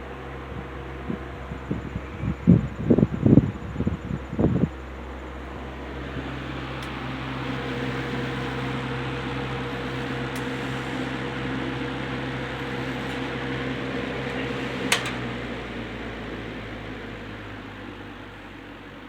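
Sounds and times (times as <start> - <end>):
box fan running: 0.0 - 19.0.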